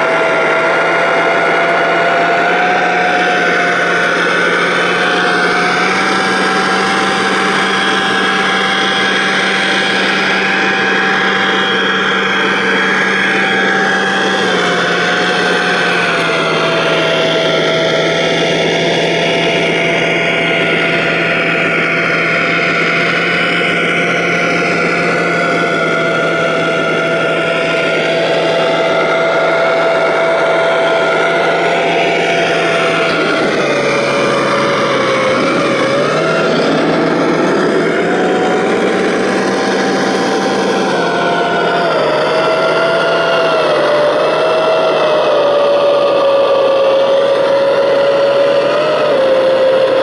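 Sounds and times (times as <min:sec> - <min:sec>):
electric motor whine: 0:00.0 - 0:50.0.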